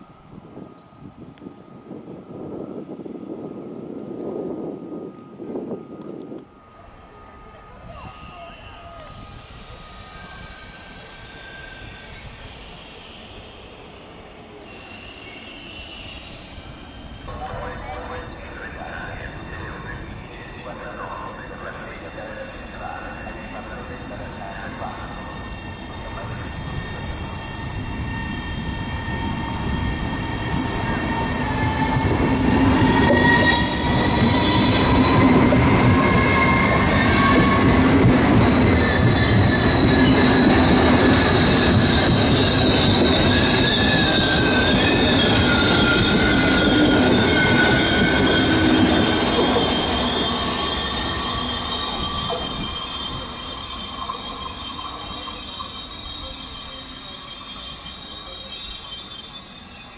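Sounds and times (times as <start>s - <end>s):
train rumbling past: 0.0s - 59.9s
high wavering squealing: 5.1s - 17.4s, 21.8s - 59.9s.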